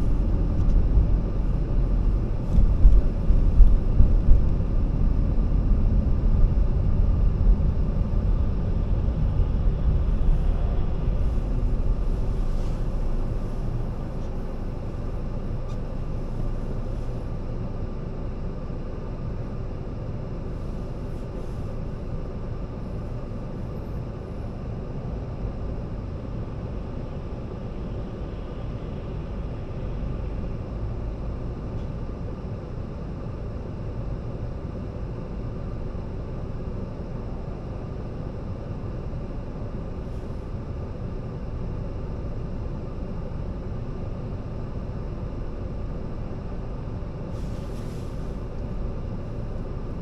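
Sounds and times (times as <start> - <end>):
car road and engine rumble: 0.0 - 50.0.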